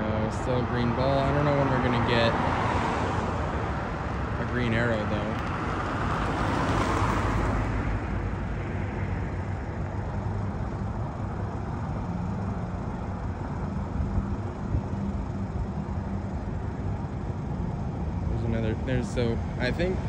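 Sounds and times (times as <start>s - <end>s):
low rumble of traffic engines: 0.0s - 20.0s
car passing: 0.6s - 20.0s.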